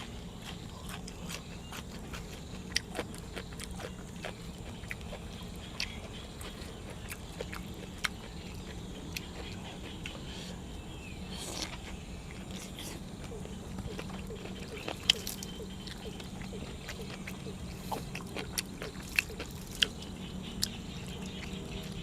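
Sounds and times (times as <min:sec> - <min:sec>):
chewing and crunching food: 0:00.0 - 0:22.0
steady low hum: 0:00.0 - 0:22.0.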